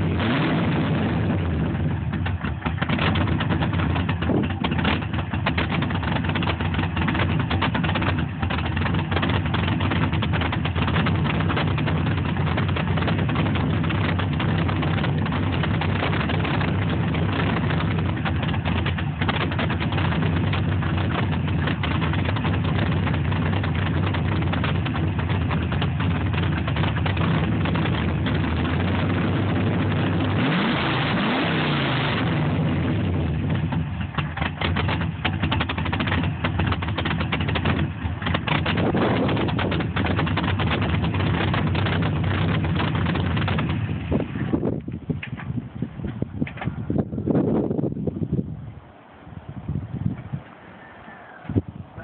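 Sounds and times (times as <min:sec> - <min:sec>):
engine revving: 0:00.0 - 0:44.7
car engine idling: 0:00.0 - 0:52.0.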